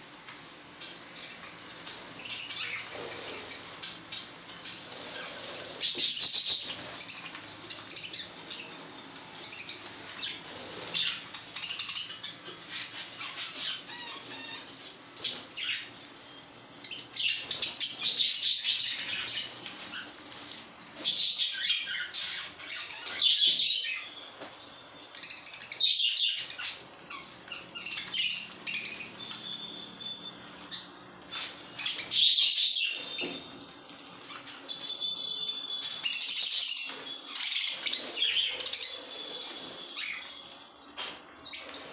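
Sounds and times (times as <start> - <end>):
budgerigars chattering and chirping: 0.8 - 8.8, 9.4 - 15.9, 16.9 - 20.2, 21.0 - 24.1, 25.1 - 33.6, 34.2 - 41.9.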